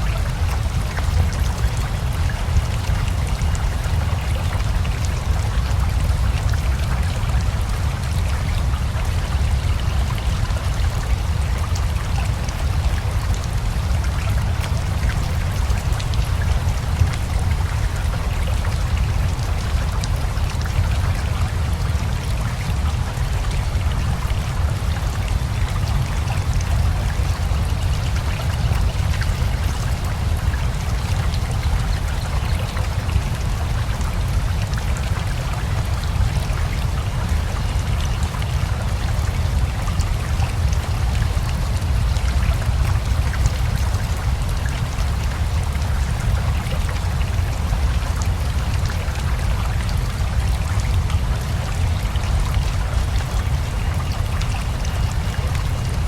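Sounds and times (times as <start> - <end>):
river flowing: 0.0 - 56.0
steady rain: 0.0 - 56.0.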